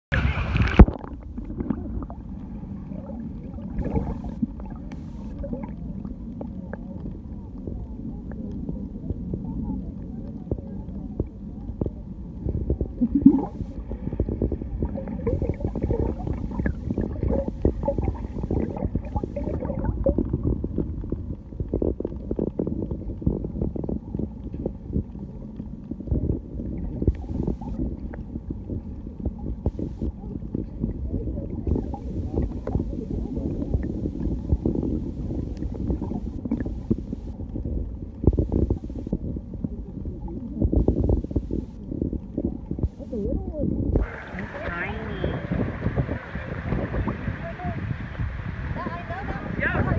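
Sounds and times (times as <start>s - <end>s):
low rumble of moving water: 0.0s - 49.9s
underwater crackling and knocking: 0.1s - 49.9s.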